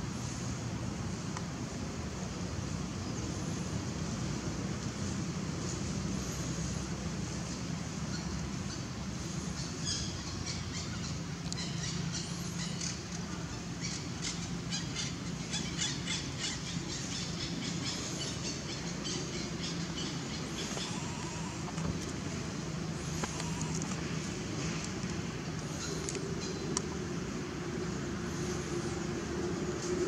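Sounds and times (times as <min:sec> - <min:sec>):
low outdoor hum: 0:00.0 - 0:30.0.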